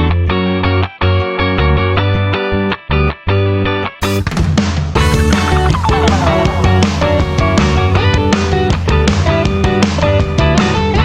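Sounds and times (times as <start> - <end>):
upbeat guitar music with bass: 0.0 - 11.0.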